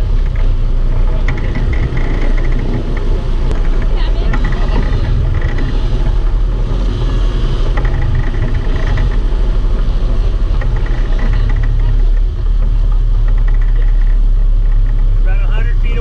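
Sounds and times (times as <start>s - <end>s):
boat engines running: 0.0s - 16.0s.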